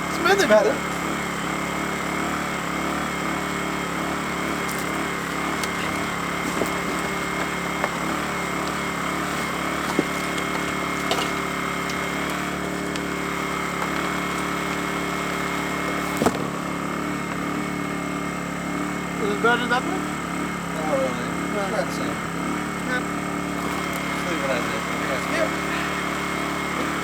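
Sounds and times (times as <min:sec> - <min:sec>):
generator running: 0:00.0 - 0:27.0.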